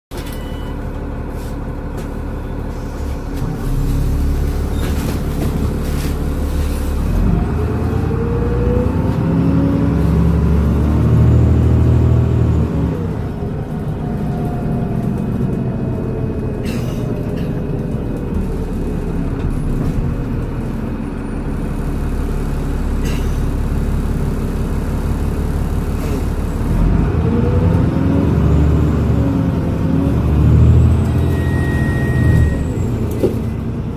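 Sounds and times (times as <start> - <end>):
bus engine drone: 0.1 - 33.9.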